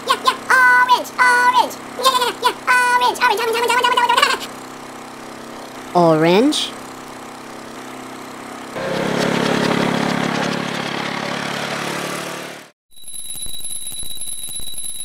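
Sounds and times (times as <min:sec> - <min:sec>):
motor hum with high whine: 0:00.0 - 0:12.4
cartoon motor idling and driving: 0:00.0 - 0:15.0.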